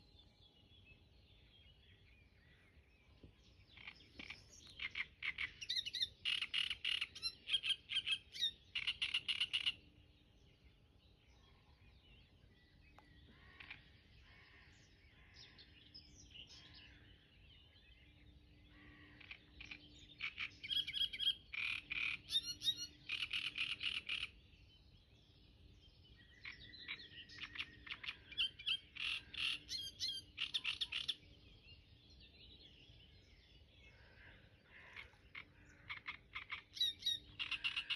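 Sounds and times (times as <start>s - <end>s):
songbird twittering: 0.0s - 37.9s.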